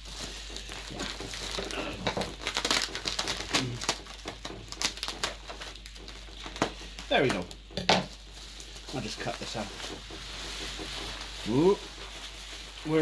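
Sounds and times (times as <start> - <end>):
bubble wrap crackling: 0.0 - 13.0.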